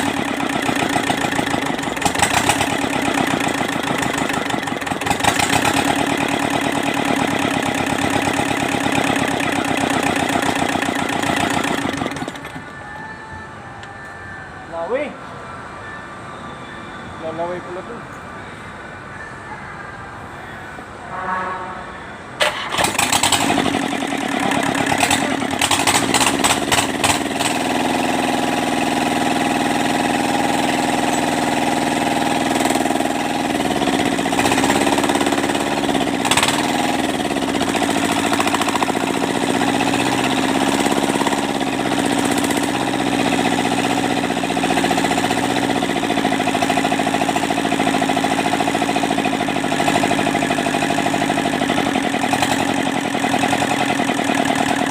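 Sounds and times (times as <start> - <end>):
diesel engine starting and running: 0.0 - 21.1, 22.0 - 54.9.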